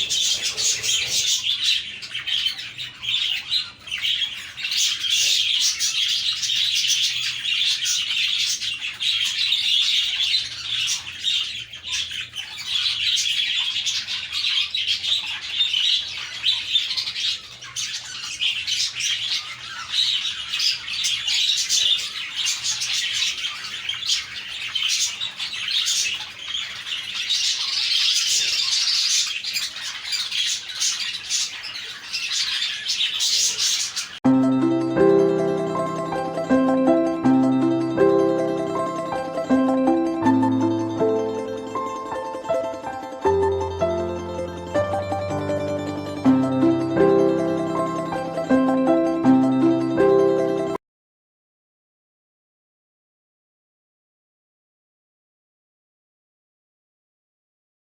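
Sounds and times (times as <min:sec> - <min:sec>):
flock of budgerigars chattering: 0:00.0 - 0:50.8.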